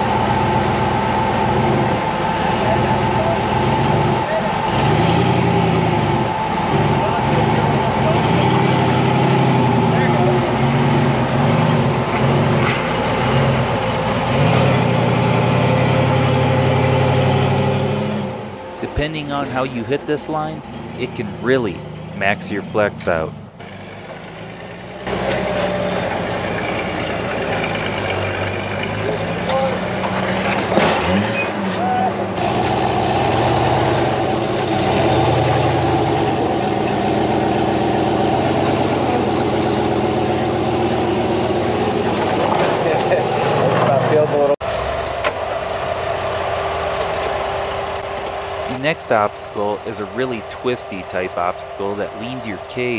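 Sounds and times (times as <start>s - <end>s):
buggy engine running loud: 0.0s - 52.9s.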